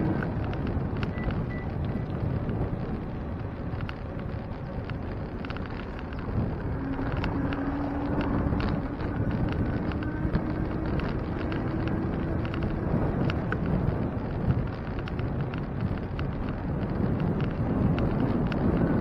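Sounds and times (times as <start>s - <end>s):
small rattles and clicks: 0.0s - 19.0s
tyres rumbling on pavement: 0.0s - 19.0s
wind buffeting microphone: 0.0s - 19.0s.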